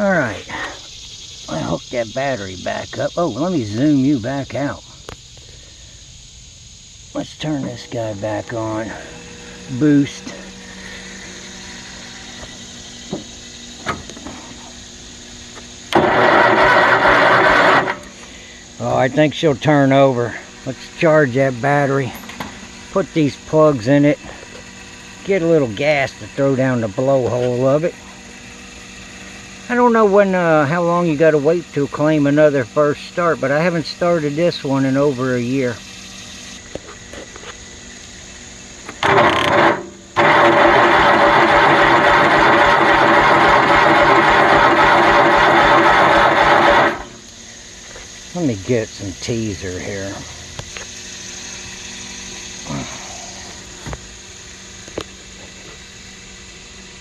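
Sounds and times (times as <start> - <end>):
steady low hum: 0.0 - 57.0
electric starter cranking engine: 7.2 - 57.0.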